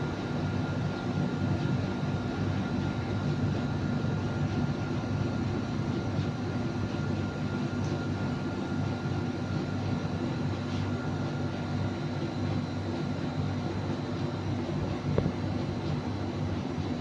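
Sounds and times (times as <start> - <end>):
jet engine drone in cabin: 0.0 - 17.0.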